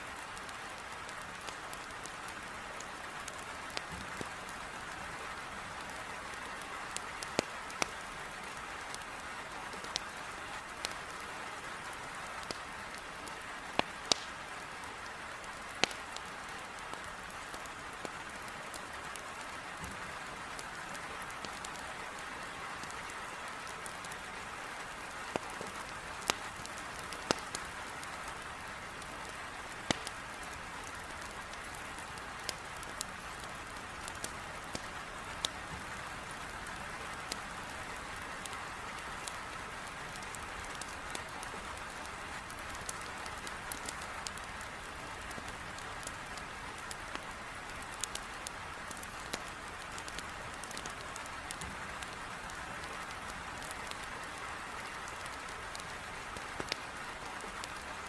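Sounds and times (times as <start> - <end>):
firewood crackling: 0.1 - 58.0
heavy rain on window: 0.2 - 58.0.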